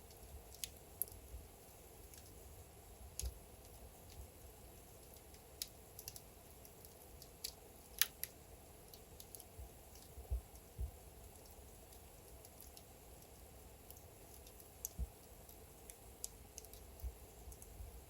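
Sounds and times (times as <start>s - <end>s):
logs crackling and popping: 0.0s - 1.4s, 2.0s - 18.0s
faint fire hiss: 0.0s - 18.0s.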